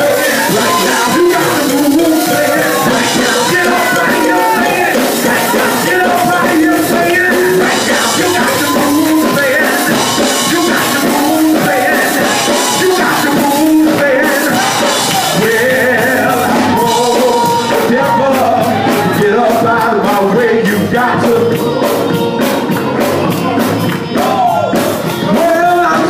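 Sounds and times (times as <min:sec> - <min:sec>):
band with steady beat: 0:00.0 - 0:26.0
voices singing gospel: 0:00.0 - 0:26.0.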